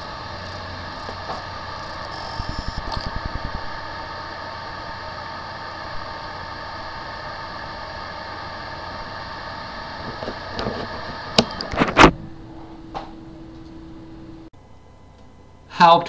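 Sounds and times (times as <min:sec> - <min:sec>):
hard drive whine: 0:00.0 - 0:16.0.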